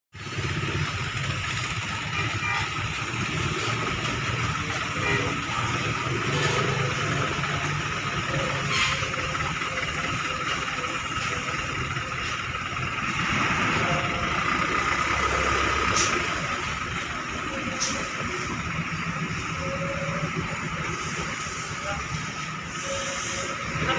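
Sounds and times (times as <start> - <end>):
bus engine running at low revs: 0.2 - 23.9.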